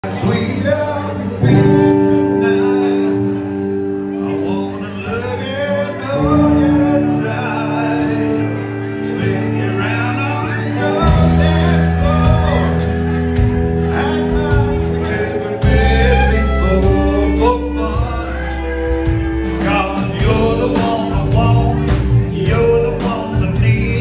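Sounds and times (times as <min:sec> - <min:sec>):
live country band playing: 0:00.0 - 0:24.0.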